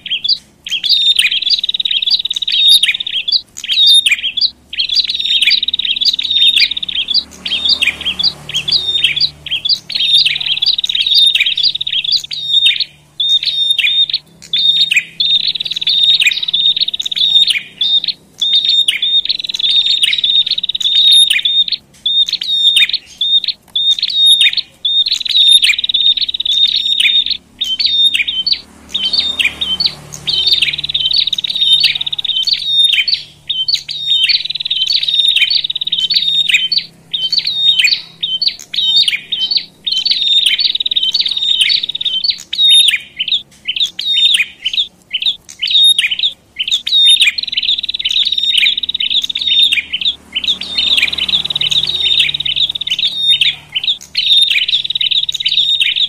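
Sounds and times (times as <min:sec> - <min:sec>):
small birds chattering and trilling: 0:00.0 - 0:56.0.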